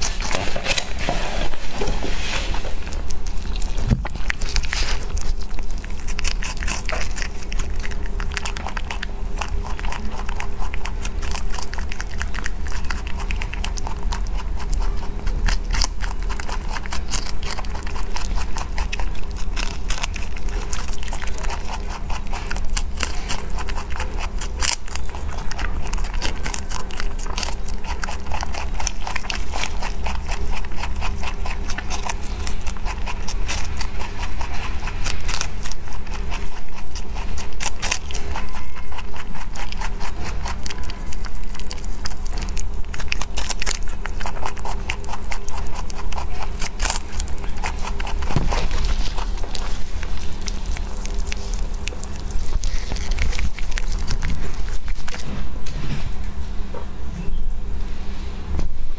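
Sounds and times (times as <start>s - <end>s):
rabbit crunching apple: 0.0s - 58.9s
steady low hum: 0.0s - 58.9s.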